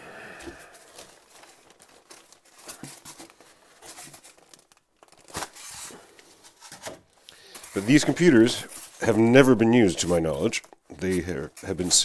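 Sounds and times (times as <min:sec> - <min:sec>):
plastic bag rustling: 0:00.4 - 0:12.0
foam packing rustling: 0:00.5 - 0:12.0.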